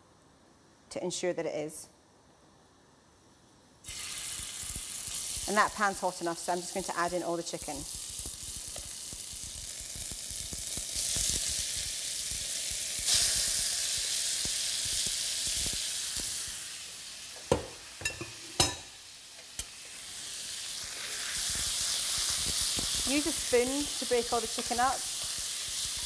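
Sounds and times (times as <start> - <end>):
chicken sizzling in oil: 3.8 - 26.0.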